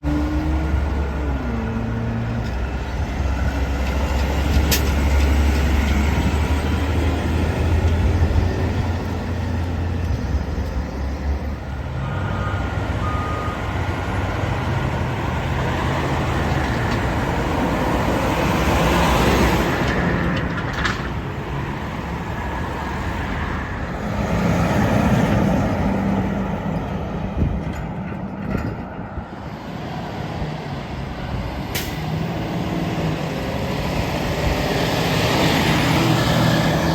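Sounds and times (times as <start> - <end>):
road traffic passing: 0.0 - 36.9.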